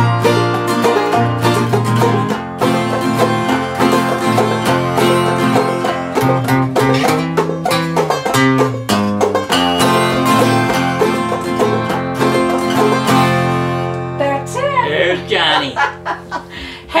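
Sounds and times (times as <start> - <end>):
banjo picking: 0.0 - 16.5
acoustic guitar: 0.0 - 17.0.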